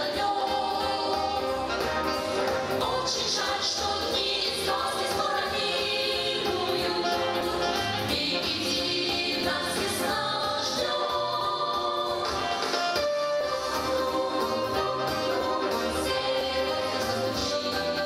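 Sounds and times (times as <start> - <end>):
song with voices singing: 0.0 - 18.0.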